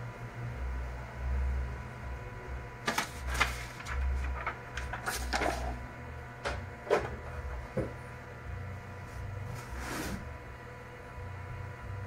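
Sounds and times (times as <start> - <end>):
printer motor hum: 0.0 - 12.0.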